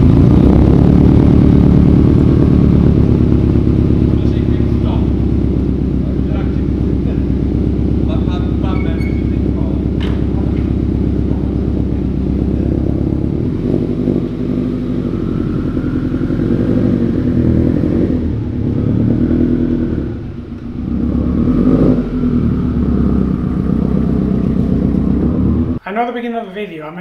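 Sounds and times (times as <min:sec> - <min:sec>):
car engine at low revs: 0:00.0 - 0:25.8.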